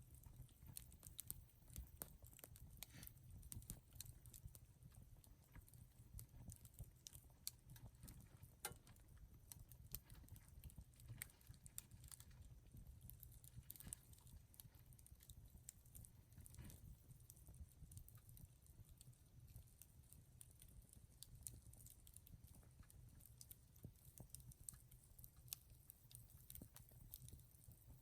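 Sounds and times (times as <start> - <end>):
campfire crackling: 0.1 - 27.7.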